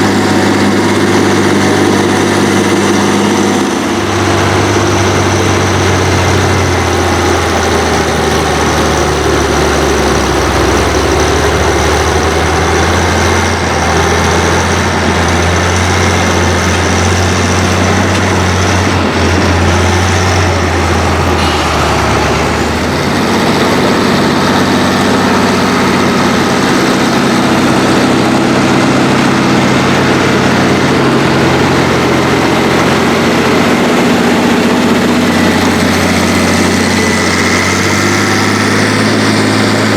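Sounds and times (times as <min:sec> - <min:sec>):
diesel tractor engines under load: 0:00.0 - 0:39.9.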